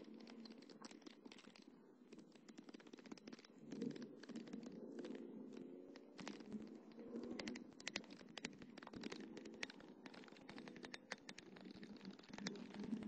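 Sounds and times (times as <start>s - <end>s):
rapid clicking and rattling: 0.0s - 13.0s.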